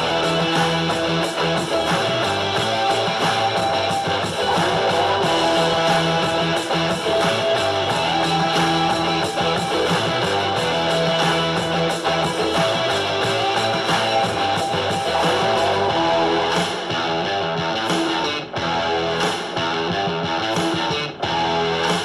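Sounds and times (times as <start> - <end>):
strummed electric guitar music: 0.0 - 22.0.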